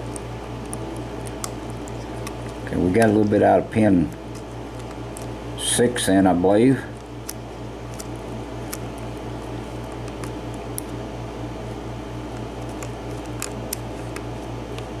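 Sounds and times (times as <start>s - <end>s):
throbbing fan hum: 0.0s - 15.0s.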